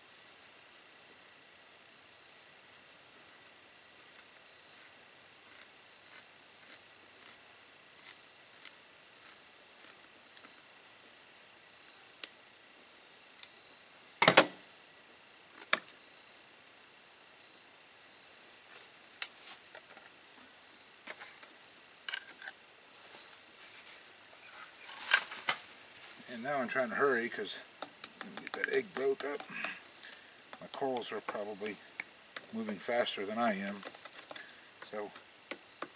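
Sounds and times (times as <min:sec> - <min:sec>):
high-pitched insect drone: 0:02.1 - 0:12.6, 0:16.0 - 0:35.9.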